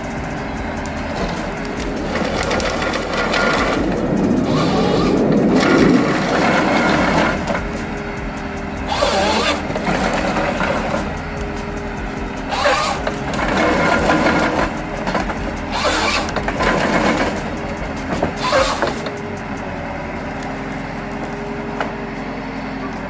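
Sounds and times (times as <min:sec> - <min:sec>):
loud rushing bursts: 0:00.0 - 0:20.3
diesel machinery running: 0:00.0 - 0:23.0.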